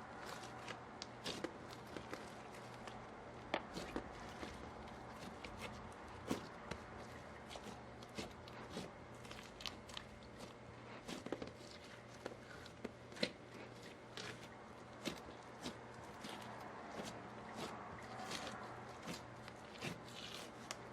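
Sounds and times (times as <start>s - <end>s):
slime squishing by hand: 0.0s - 20.9s.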